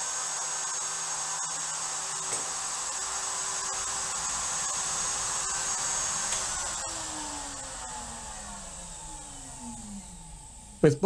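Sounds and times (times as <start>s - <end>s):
router motor whining: 0.0s - 11.0s.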